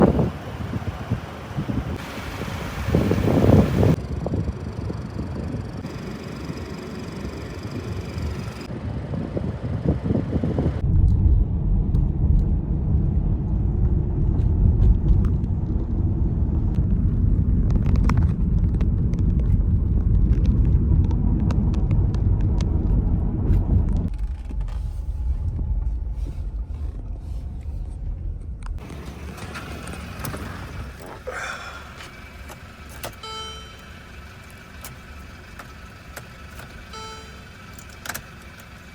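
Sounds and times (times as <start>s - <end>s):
low vehicle rumble: 0.0s - 38.9s.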